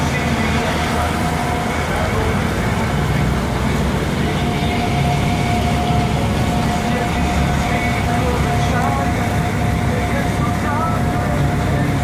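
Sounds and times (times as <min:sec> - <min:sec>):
faint steady whine: 0:00.0 - 0:12.0
ship engines rumbling: 0:00.0 - 0:12.0.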